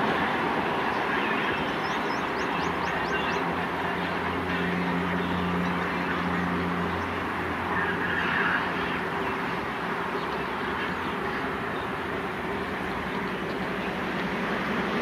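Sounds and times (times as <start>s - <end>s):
distant diesel locomotive drone: 0.0s - 15.0s
wide rushing noise: 0.0s - 15.0s.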